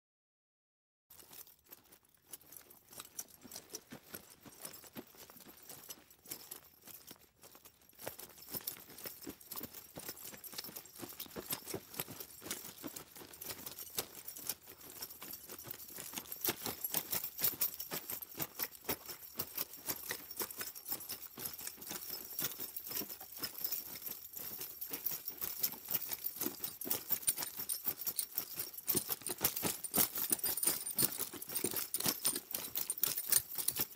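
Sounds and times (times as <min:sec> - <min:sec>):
horse bridle jingling: 0:01.1 - 0:33.9.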